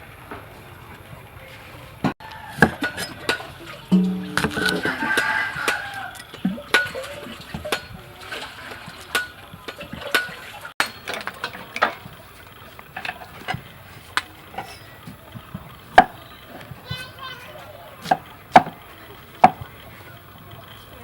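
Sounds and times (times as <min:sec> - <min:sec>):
utensils clinking against dishes: 0:02.4 - 0:19.7.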